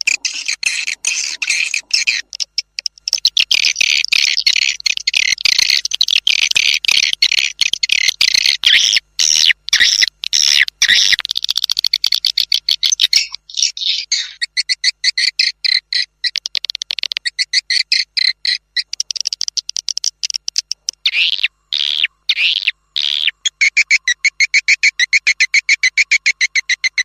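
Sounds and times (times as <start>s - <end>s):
swiftlet chittering calls: 0.0s - 27.0s.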